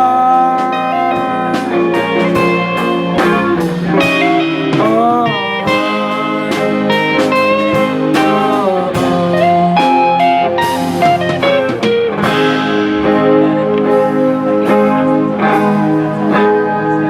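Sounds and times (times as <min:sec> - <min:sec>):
bass: 0:00.0 - 0:17.0
drums: 0:00.0 - 0:17.0
electric guitar lead: 0:00.0 - 0:17.0.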